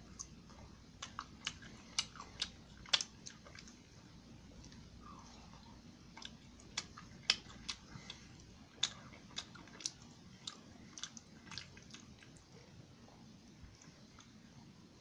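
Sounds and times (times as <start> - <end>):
person chewing wetly: 0.0 - 12.7.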